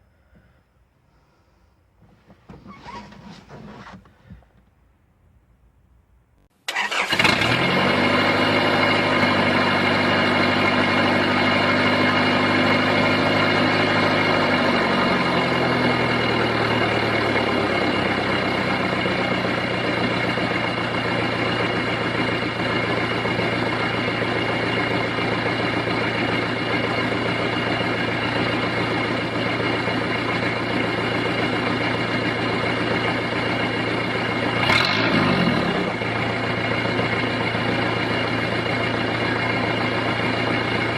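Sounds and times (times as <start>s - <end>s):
diesel engine idling: 6.7s - 40.9s.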